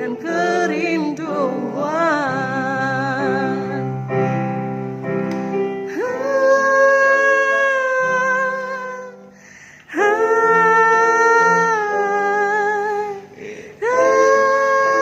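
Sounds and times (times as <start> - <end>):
person singing a ballad: 0.0 - 4.6, 5.5 - 15.0
keyboard accompaniment: 0.0 - 15.0.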